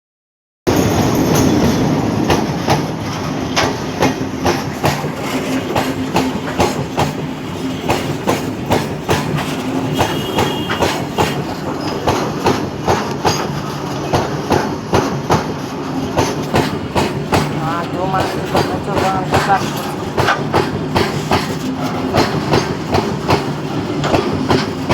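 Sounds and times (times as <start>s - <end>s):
train rumble and low hum: 0.7s - 24.9s
train wheels clicking over rail joints: 0.7s - 24.9s.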